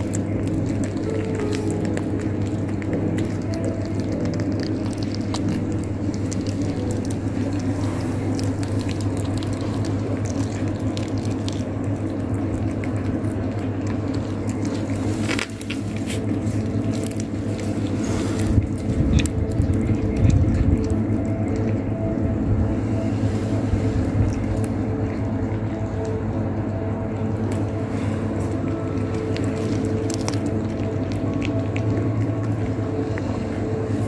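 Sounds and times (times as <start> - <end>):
cat chewing wet bites: 0.0 - 22.0, 27.2 - 33.9
steady low hum: 0.0 - 34.0.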